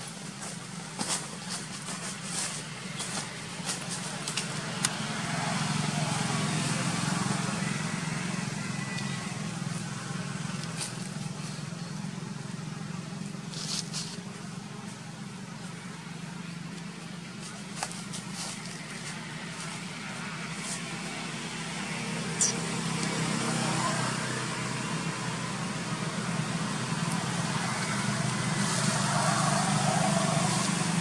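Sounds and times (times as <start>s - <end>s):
distant traffic hum: 0.0s - 31.0s.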